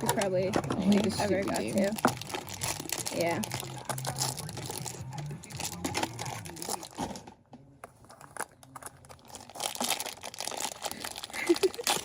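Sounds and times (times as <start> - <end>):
plastic packaging crinkling and tearing: 0.0 - 7.2, 8.0 - 12.0.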